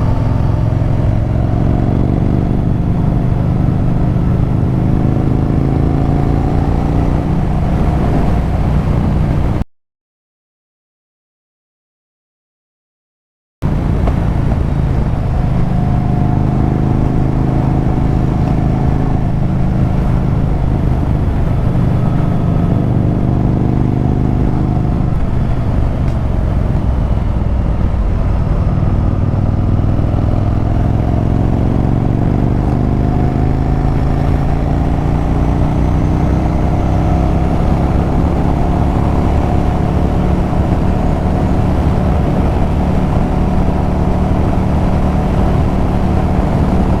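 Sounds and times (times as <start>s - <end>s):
motorcycle engine running hard: 0.0s - 9.6s, 13.6s - 47.0s.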